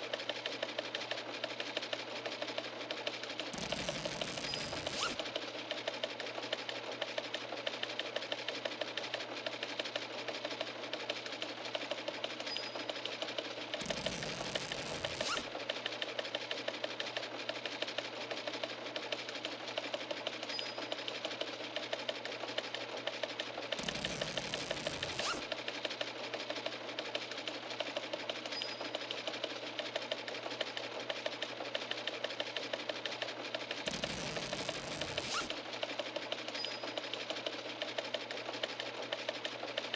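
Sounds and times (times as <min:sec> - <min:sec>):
rapid mechanical clicking: 0:00.0 - 0:39.9
small machine clattering: 0:00.0 - 0:39.9.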